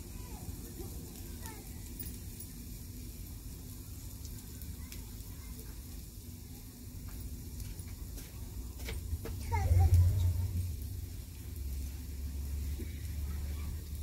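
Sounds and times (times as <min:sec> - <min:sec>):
faint crackles: 0:00.0 - 0:14.0
garlic sizzling in hot oil: 0:00.0 - 0:14.0.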